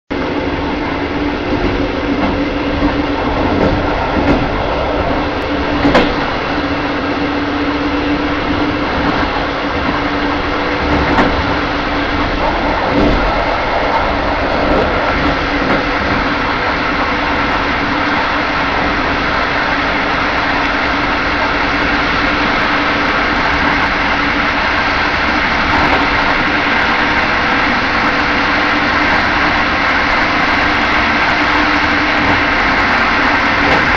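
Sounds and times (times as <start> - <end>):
train carriage rumbling: 0.1 - 33.9
wheels clacking over rail joints: 0.2 - 33.9.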